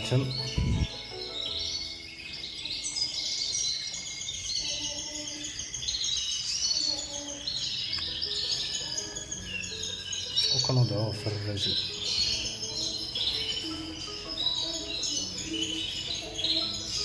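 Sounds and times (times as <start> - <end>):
small birds twittering: 0.0 - 17.0.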